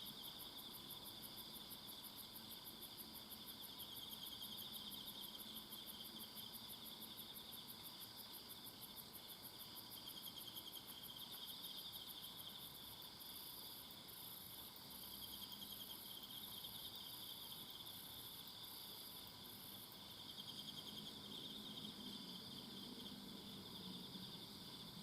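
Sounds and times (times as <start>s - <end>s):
insects low steady trill: 0.0s - 25.0s
insects pulsing high chirp: 0.0s - 25.0s.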